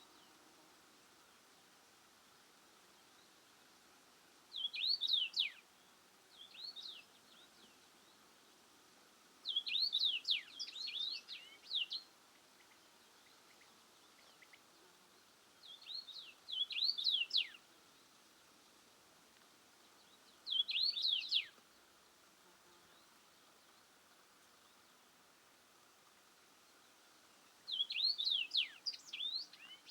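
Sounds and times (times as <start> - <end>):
faint outdoor hiss: 0.0 - 29.9
songbird chirping: 4.4 - 8.7, 9.4 - 29.9.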